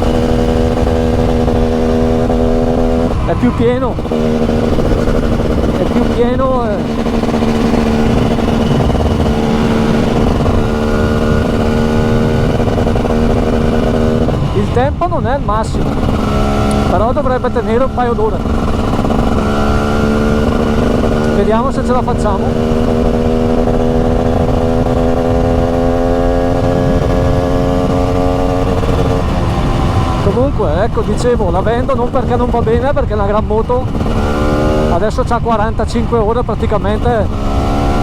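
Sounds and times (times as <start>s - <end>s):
low wind rumble: 0.0s - 38.0s
two-stroke motorcycle engine running: 0.0s - 38.0s.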